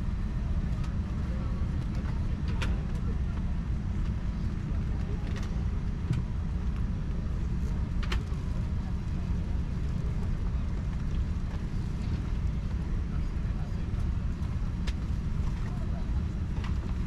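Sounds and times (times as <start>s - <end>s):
air conditioning running: 0.0s - 17.0s
aircraft cabin hum: 0.0s - 17.0s
faint passenger voices: 0.0s - 17.0s.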